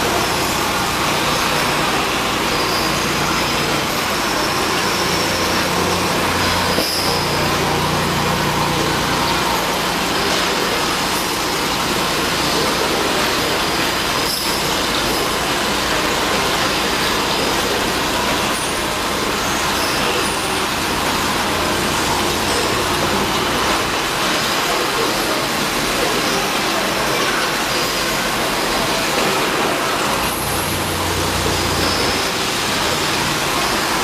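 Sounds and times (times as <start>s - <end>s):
machine hum: 0.0s - 27.0s, 27.6s - 34.0s.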